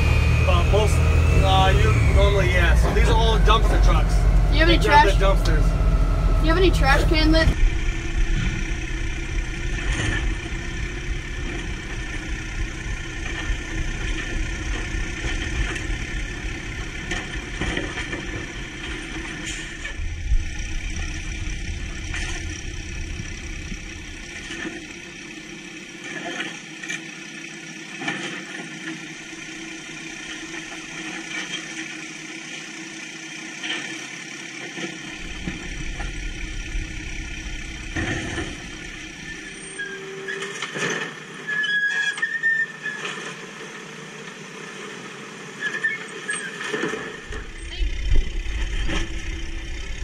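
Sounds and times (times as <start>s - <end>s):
clunks and knocks of carts: 0.0s - 29.4s, 30.0s - 32.7s, 33.6s - 44.4s, 45.6s - 50.0s
garbage truck diesel engine: 0.0s - 50.0s.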